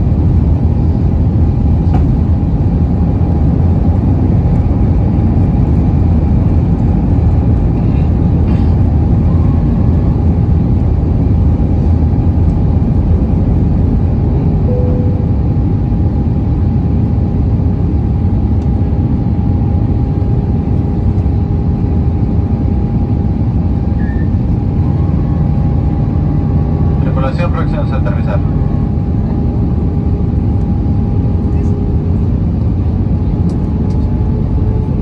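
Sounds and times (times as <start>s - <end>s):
aircraft engine roar: 0.0s - 35.0s
faint constant whine: 0.0s - 35.0s.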